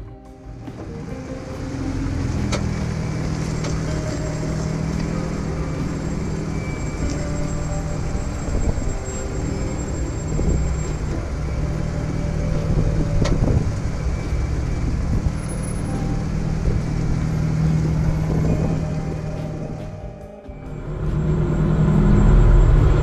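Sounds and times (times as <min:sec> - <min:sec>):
engine running at low revs: 0:00.0 - 0:23.0.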